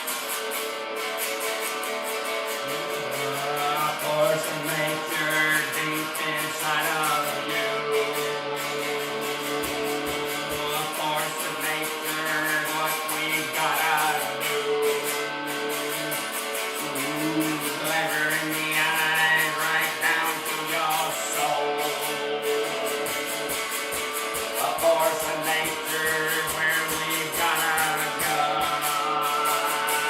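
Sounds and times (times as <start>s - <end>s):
guitar with gliding notes: 0.0s - 30.0s
steady ticking beat: 1.0s - 30.0s.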